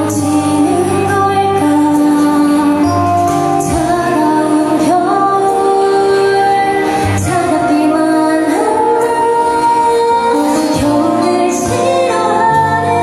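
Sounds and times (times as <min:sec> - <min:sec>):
instrumental pop backing: 0:00.0 - 0:13.0
woman singing pop melody: 0:00.0 - 0:13.0.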